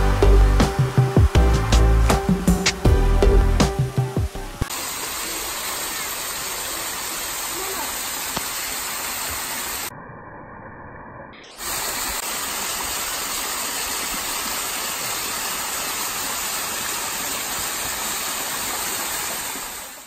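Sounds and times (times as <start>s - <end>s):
waterfall rushing and splashing: 0.0s - 9.9s, 11.6s - 20.0s.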